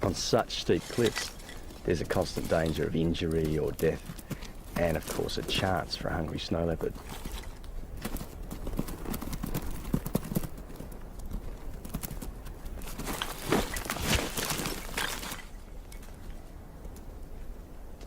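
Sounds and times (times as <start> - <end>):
hooves clattering on rock: 0.0 - 17.1.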